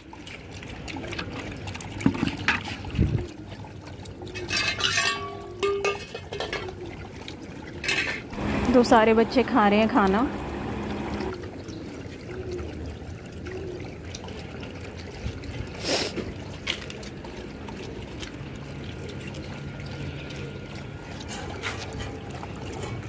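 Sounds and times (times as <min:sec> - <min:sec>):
dogs slurping and chewing: 0:00.0 - 0:23.0.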